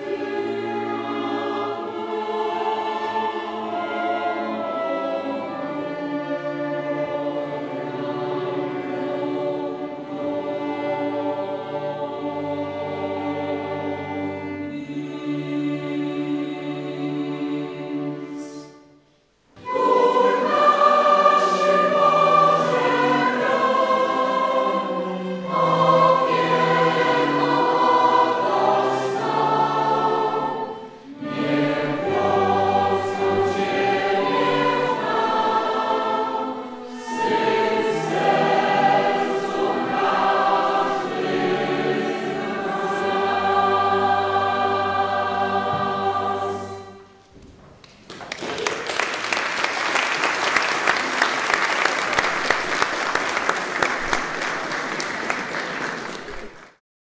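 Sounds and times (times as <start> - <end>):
choir singing a hymn: 0.0 - 19.0, 19.6 - 47.3
string accompaniment: 0.0 - 48.1.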